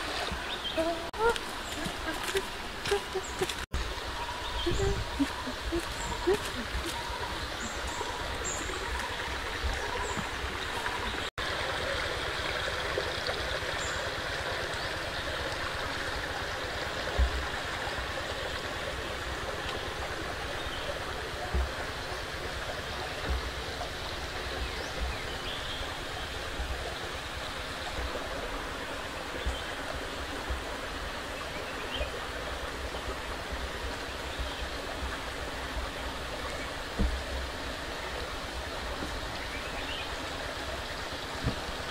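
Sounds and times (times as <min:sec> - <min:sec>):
rushing outdoor ambience: 0:00.0 - 0:41.9.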